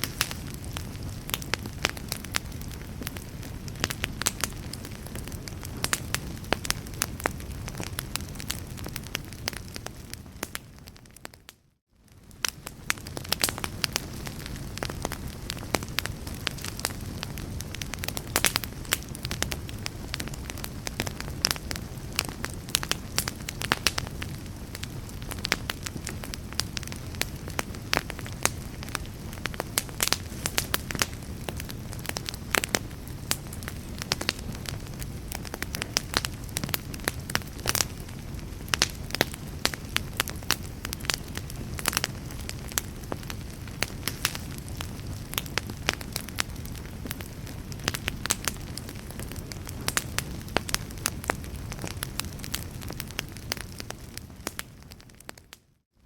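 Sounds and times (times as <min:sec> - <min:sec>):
fire crackling and popping: 0:00.0 - 0:55.7.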